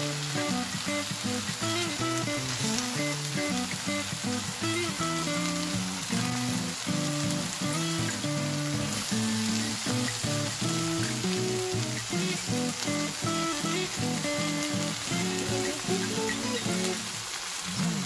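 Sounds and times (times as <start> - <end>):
background music: 0.0 - 17.1
noodles sizzling in frying pan: 0.0 - 18.0.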